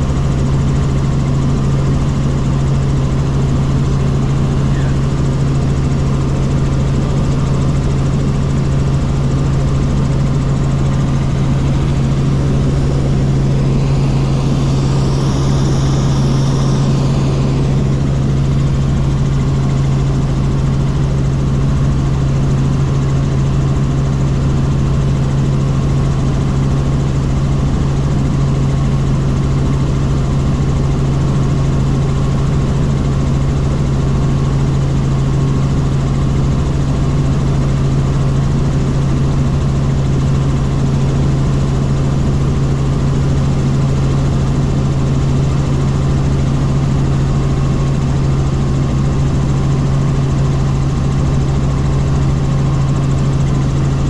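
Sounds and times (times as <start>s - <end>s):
helicopter rotor drone: 0.0s - 54.0s.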